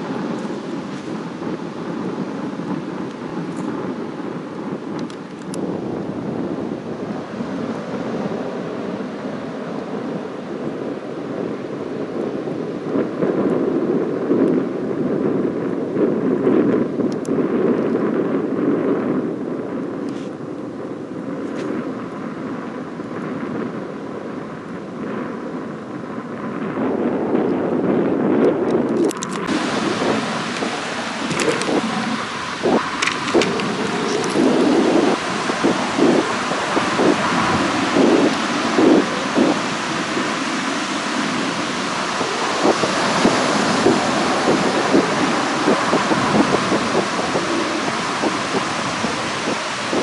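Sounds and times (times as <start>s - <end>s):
distant jet rumble: 0.0s - 50.0s.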